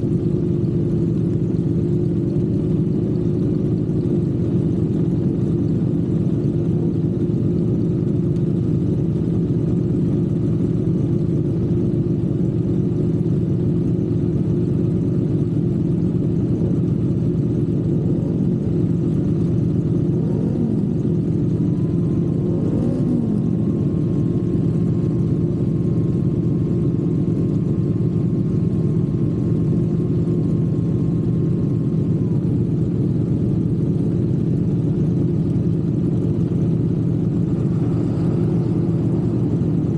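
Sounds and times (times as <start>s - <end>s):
faint steady whine: 0.0s - 39.9s
motorcycle engine running: 0.0s - 39.9s.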